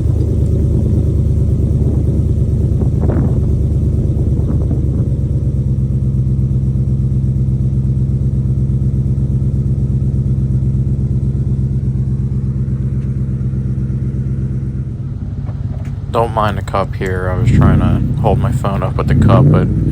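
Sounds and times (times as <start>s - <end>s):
car engine running steadily: 0.0s - 19.9s.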